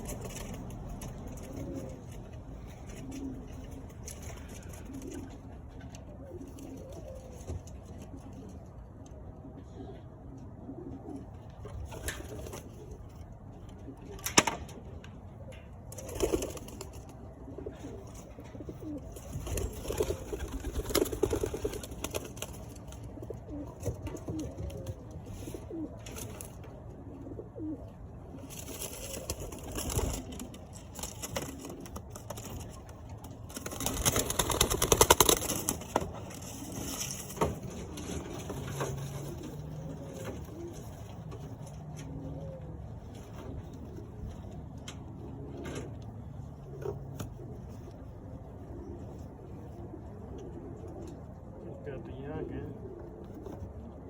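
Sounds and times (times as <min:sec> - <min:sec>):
pigeons scuffling: 0:00.0 - 0:51.9, 0:52.7 - 0:54.0
pigeons cooing: 0:00.0 - 0:54.0.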